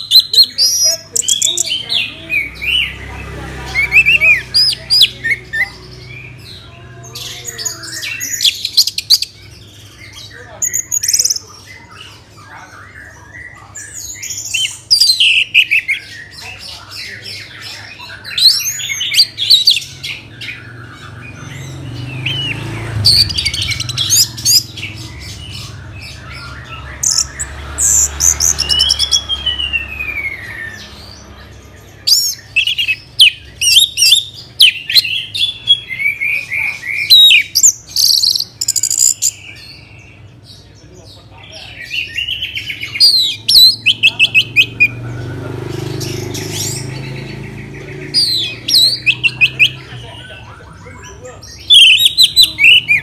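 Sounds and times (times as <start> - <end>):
thrush singing: 0.0 - 10.0, 13.9 - 40.4, 42.0 - 53.0.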